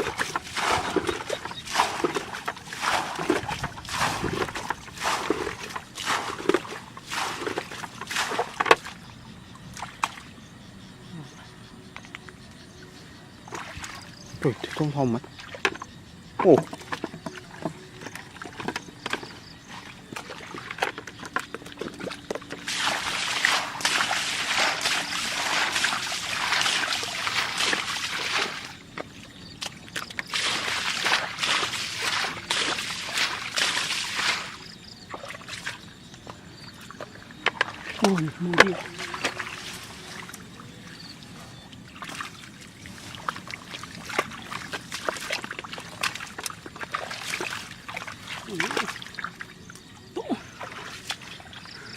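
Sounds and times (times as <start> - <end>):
water splashing and pouring: 0.0 - 9.0, 16.5 - 35.8, 36.8 - 49.7, 50.3 - 51.9.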